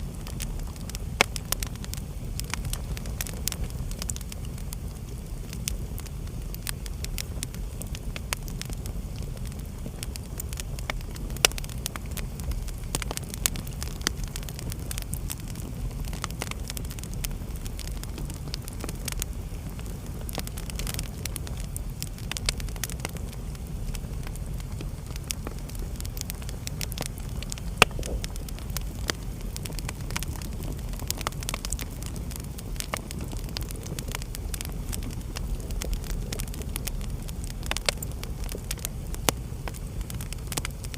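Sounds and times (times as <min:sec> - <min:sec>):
low rumble of flames: 0:00.0 - 0:40.9
wood fire crackling: 0:00.0 - 0:40.9
sharp pops of fire: 0:00.2 - 0:40.9.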